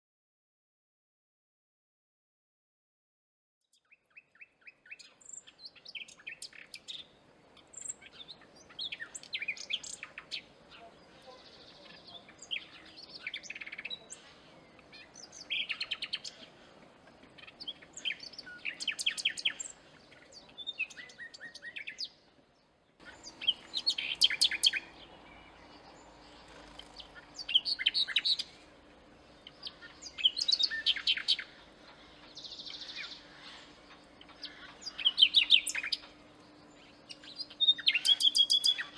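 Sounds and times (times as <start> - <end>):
nightingale singing: 3.7 - 16.5, 17.4 - 22.2, 23.0 - 38.9.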